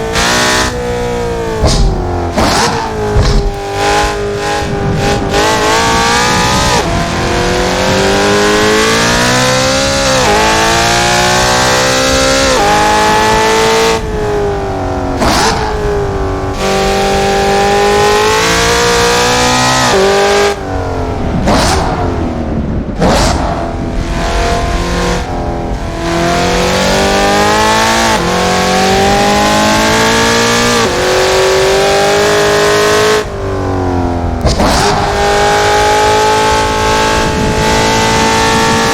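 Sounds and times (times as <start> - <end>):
car engine revving hard: 0.0 - 38.9.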